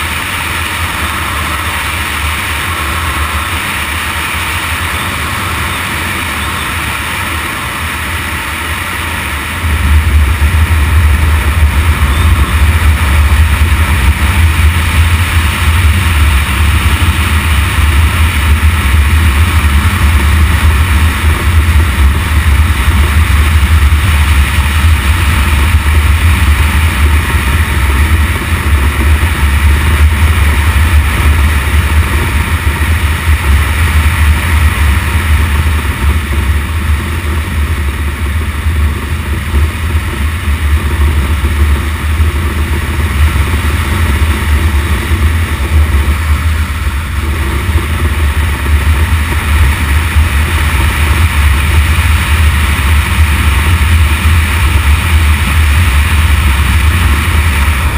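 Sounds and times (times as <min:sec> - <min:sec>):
heavy low rumble: 0:00.0 - 0:57.9
motorcycle engine: 0:00.0 - 0:57.9.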